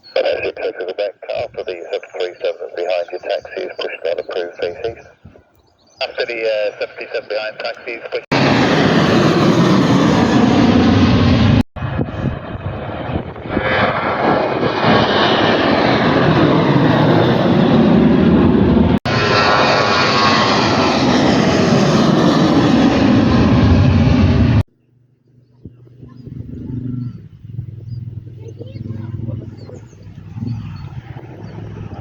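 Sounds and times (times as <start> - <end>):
aircraft engines roaring: 0.0 - 32.0.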